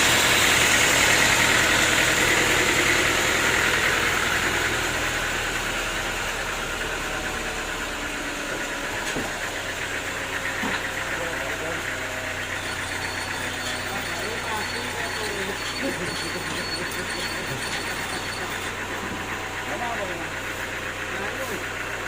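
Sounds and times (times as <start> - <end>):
sawmill machinery whirring: 0.0 - 22.0.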